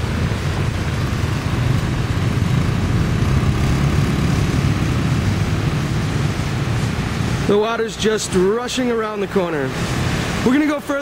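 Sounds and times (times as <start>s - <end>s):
floodwater rushing: 0.0s - 11.0s
motorbike engines running: 0.0s - 11.0s.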